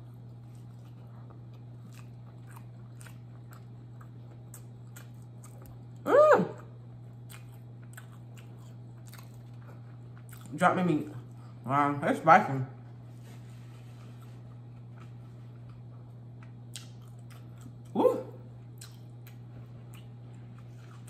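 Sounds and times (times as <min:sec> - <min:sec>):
close-up chewing crunches: 0:00.0 - 0:06.0, 0:06.9 - 0:11.6, 0:13.9 - 0:17.9, 0:18.6 - 0:21.0.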